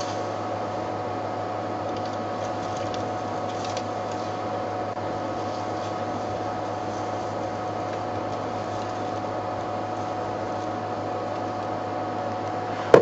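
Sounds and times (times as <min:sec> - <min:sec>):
steady hum and hiss: 0:00.0 - 0:13.0.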